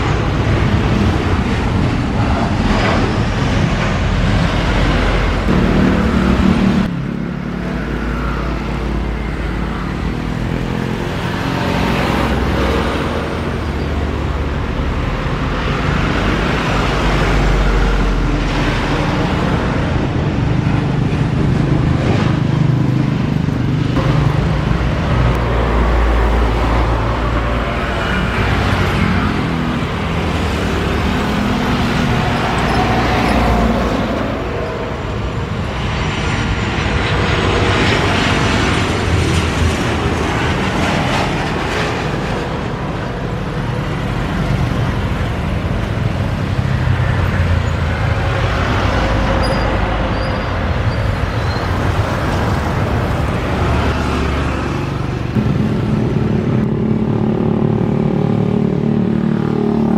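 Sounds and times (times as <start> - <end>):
jet engines rushing: 0.0 - 59.8
high engine whine: 0.0 - 59.9.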